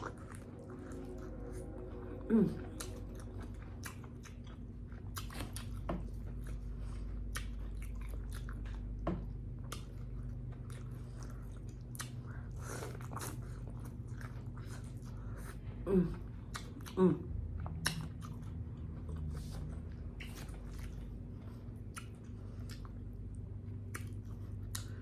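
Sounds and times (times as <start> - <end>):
low steady hum: 0.0 - 25.0
chewing and lip smacking: 2.6 - 15.6, 16.4 - 17.0, 17.6 - 25.0.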